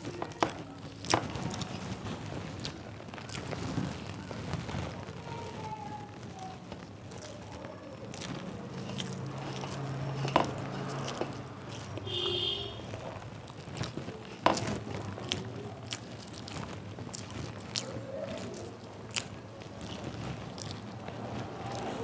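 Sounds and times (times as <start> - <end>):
fingers squishing food: 0.0 - 22.0.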